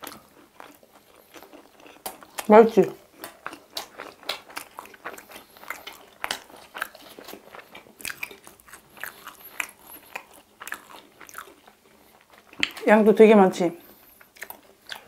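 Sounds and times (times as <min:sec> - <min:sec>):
crunchy chicken being chewed: 0:00.0 - 0:12.9, 0:13.8 - 0:15.0.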